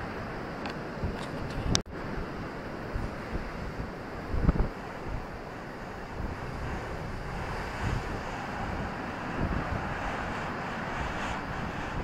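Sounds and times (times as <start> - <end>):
sea surf on rocky shore: 0.0 - 12.0
wind buffeting microphone: 0.0 - 12.0.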